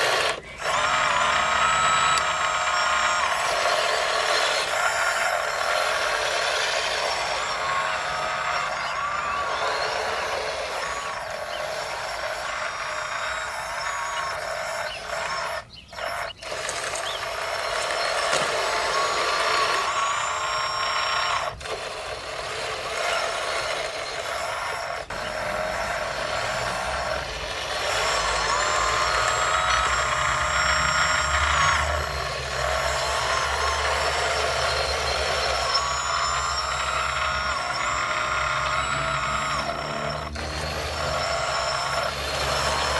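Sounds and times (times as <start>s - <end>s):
small electric motors whining: 0.0s - 42.9s.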